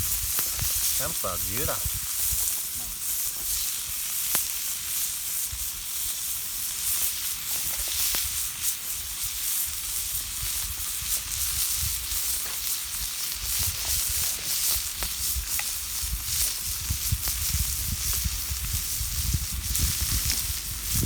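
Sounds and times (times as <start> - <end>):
fire crackling and popping: 0.0 - 21.0
food sizzling in a pan: 0.0 - 21.0.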